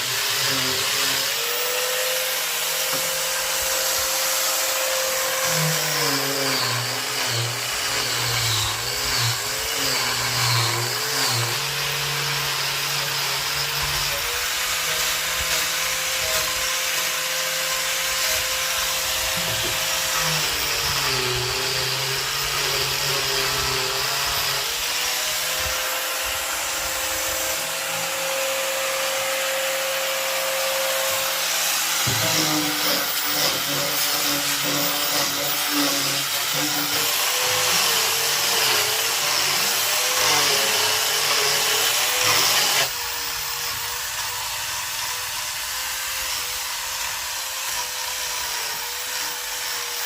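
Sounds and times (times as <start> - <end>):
power tool motor whine on wood: 0.0 - 50.0.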